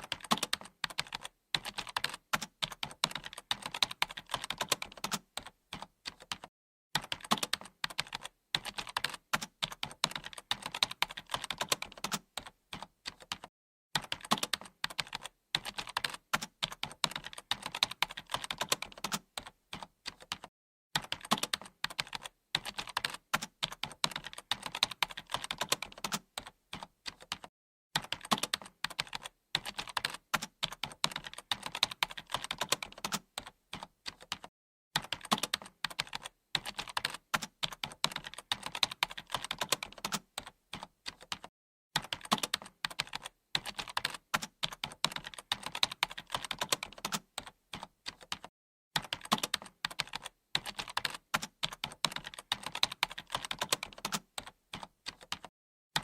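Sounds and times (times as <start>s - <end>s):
fast typing on keyboard: 0.0s - 56.0s.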